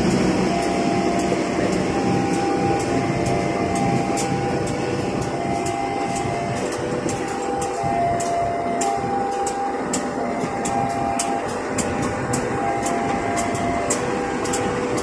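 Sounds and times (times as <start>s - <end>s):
diesel locomotive engine rumble: 0.0s - 15.0s
whining tones: 0.0s - 15.0s.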